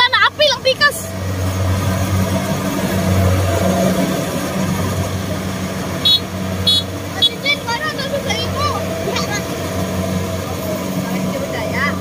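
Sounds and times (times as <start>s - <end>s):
harvester diesel engine humming: 0.0s - 12.0s.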